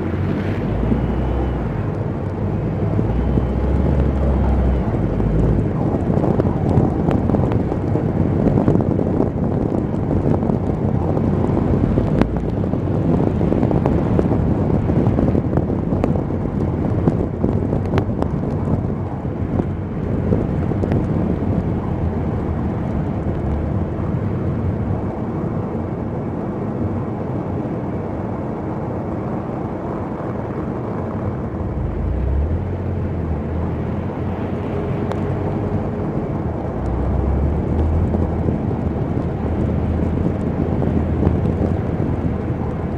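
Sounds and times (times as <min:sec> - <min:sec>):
car road and engine noise: 0:00.0 - 0:42.9.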